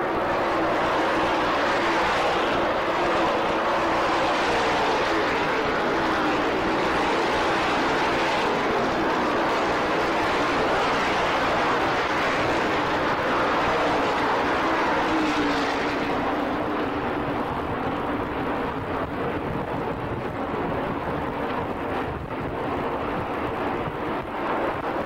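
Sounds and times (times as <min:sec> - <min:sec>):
distant race car engines droning: 0:00.0 - 0:25.0.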